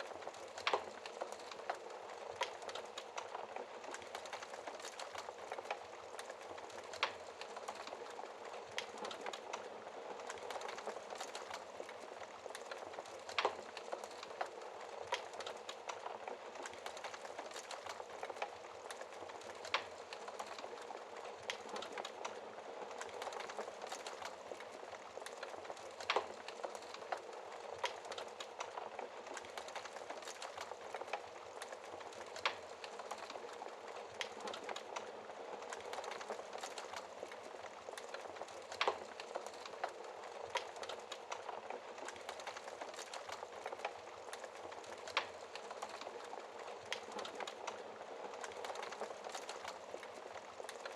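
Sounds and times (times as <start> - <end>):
fire popping: 0.0 - 50.9
logs burning in fireplace: 0.0 - 50.9.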